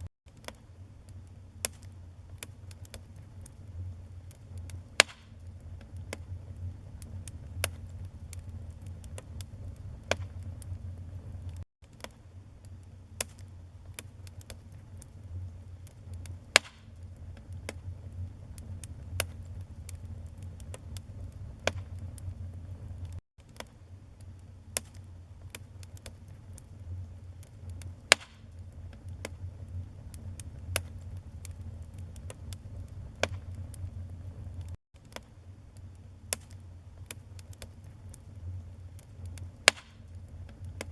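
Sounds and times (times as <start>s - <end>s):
low steady rumble: 0.0s - 11.6s, 12.3s - 23.2s, 23.8s - 34.8s, 35.4s - 40.9s
wood fire crackling: 0.0s - 40.9s.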